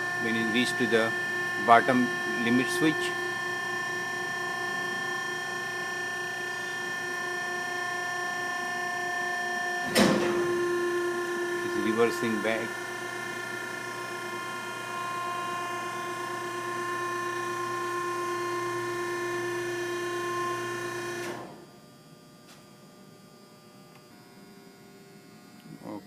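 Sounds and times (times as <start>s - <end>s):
hydraulic pump motor whining: 0.0s - 21.5s.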